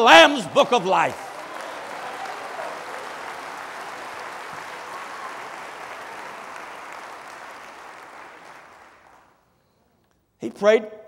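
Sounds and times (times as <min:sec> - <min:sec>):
congregation applauding: 0:00.0 - 0:09.5.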